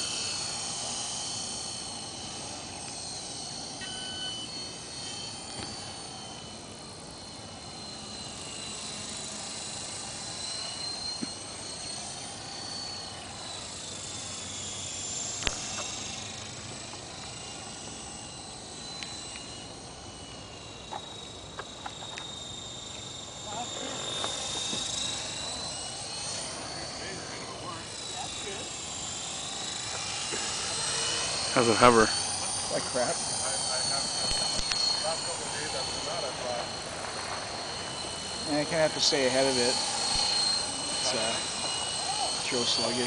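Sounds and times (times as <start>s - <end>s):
rc helicopter motor whine: 0.0s - 43.0s.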